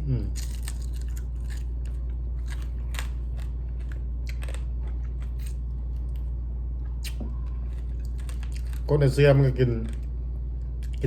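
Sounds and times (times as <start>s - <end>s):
steady low hum: 0.0s - 11.0s
chewing and crunching: 0.2s - 11.0s.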